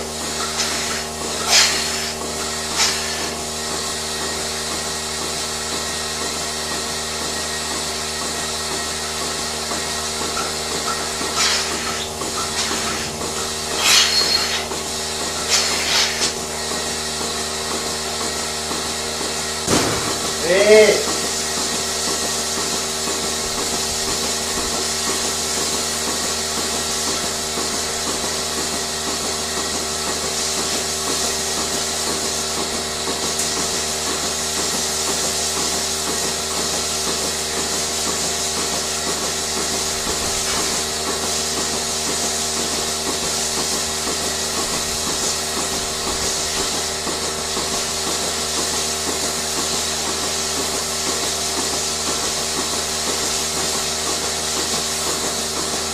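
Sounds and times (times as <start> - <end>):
farm machinery running: 0.0 - 55.9.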